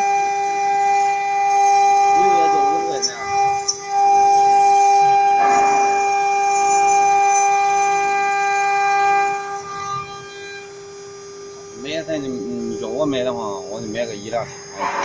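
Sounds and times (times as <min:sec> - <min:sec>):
router spindle high whine: 0:00.0 - 0:15.0.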